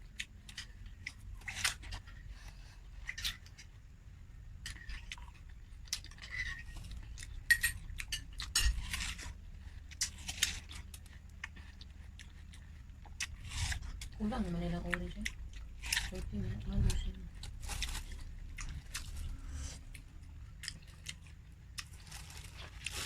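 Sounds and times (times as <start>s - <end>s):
wet bites and chewing: 0.0s - 3.8s, 4.6s - 14.2s, 17.3s - 23.0s.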